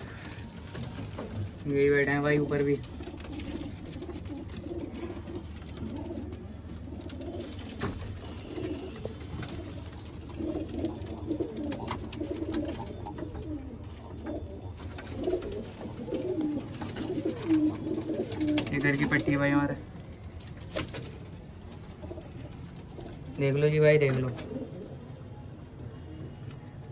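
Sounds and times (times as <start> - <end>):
pigeons cooing: 0.0 - 19.8, 20.7 - 26.9.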